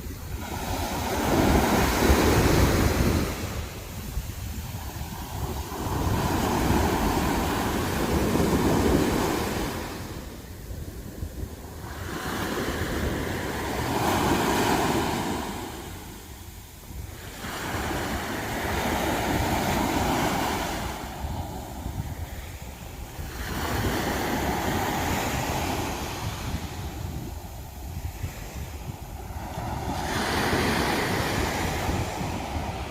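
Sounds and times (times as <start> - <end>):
sea waves washing onto beach: 0.0 - 32.9
wind buffeting microphone: 0.0 - 32.9.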